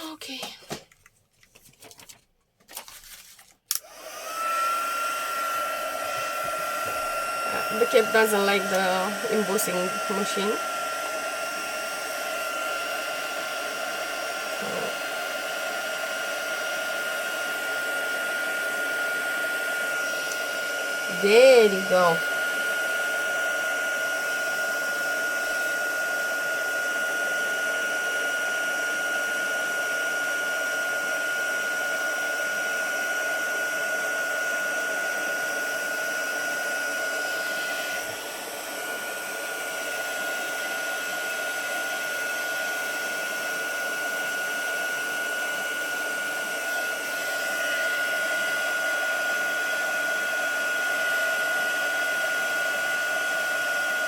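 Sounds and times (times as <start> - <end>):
heat tool blowing with whine: 3.7 - 54.0.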